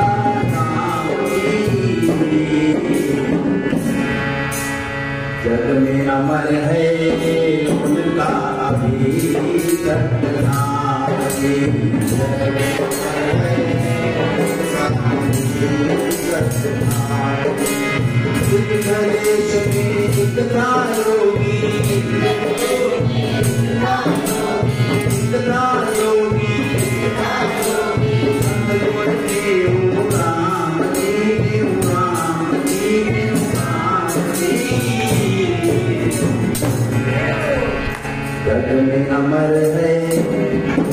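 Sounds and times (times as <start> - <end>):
jingling percussion: 0.0 - 5.0, 6.8 - 40.9
harmonium melody: 0.0 - 40.9.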